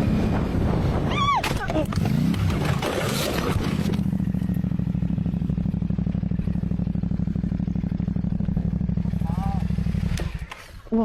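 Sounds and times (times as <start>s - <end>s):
motorcycle engine running: 1.8s - 11.0s.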